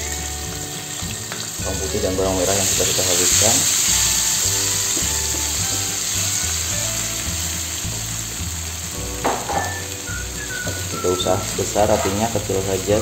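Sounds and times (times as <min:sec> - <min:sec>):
background music: 0:00.0 - 0:13.0
garlic sizzling in hot oil: 0:00.0 - 0:13.0.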